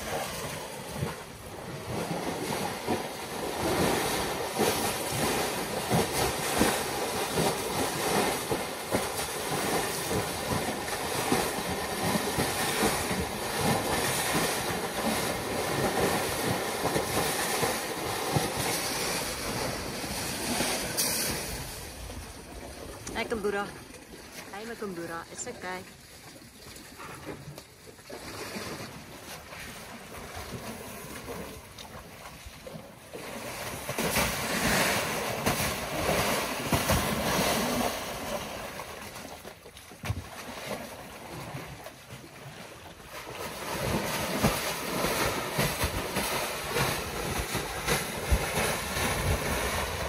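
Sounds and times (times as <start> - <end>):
elephants splashing in mud: 0.0 - 50.0.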